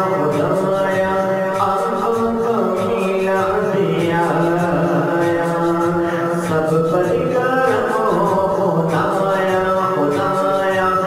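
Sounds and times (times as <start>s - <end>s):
a cappella vocal chant: 0.0s - 11.0s.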